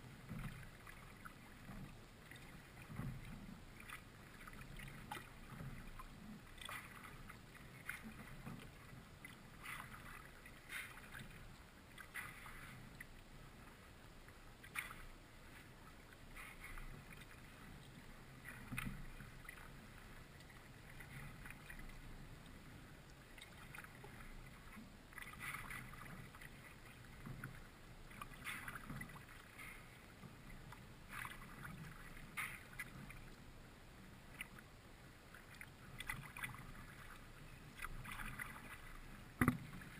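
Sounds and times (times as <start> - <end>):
paddle splashing in water: 0.0 - 33.4, 34.2 - 39.9.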